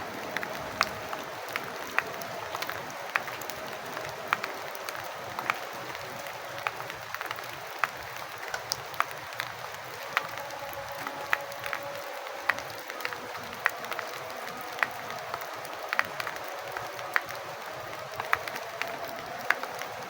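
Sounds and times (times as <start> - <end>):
large raindrops tapping: 0.0 - 20.0
rain hissing: 0.0 - 20.0.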